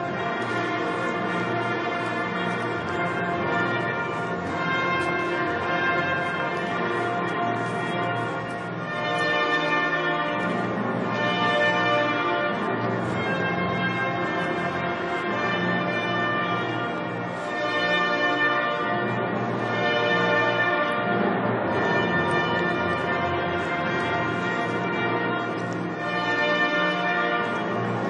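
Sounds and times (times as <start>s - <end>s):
processional church music: 0.0s - 28.0s.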